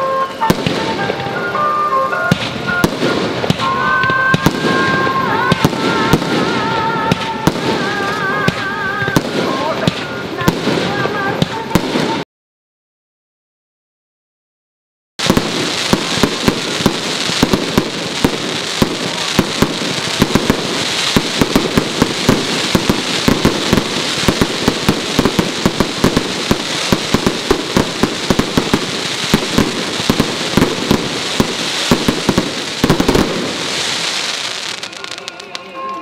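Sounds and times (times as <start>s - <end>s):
fireworks popping: 0.0s - 12.2s, 15.2s - 36.0s.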